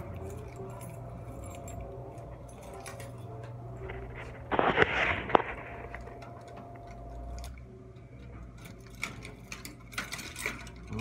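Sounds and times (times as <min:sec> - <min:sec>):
keys jingling: 0:00.0 - 0:07.6, 0:08.2 - 0:11.0
electrical hum: 0:00.0 - 0:11.0.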